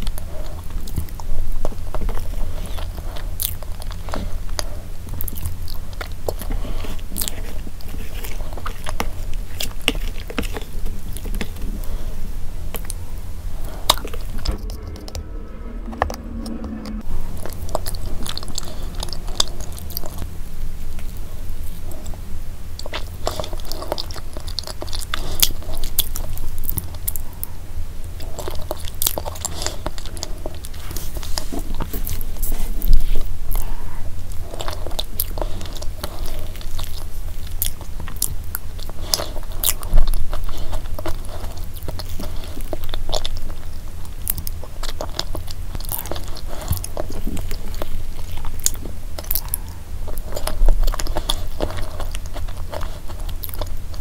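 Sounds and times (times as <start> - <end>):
close-miked chewing: 0.0 - 14.5, 17.4 - 54.0.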